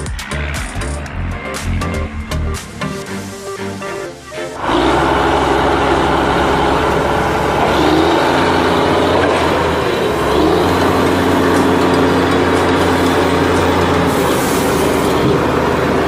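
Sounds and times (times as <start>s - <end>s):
heavy vehicle engine rumble: 0.0s - 16.0s.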